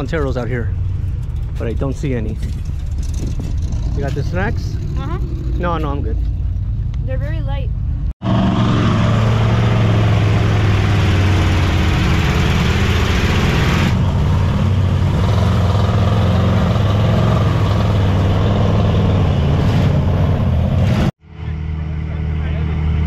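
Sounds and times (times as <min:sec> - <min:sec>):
loud truck engines running: 0:00.0 - 0:23.0.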